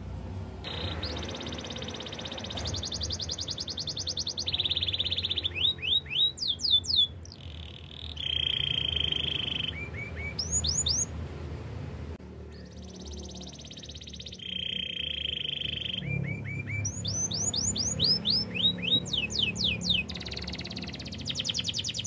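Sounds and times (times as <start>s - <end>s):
canary singing trills: 0.6s - 11.2s, 12.5s - 22.0s.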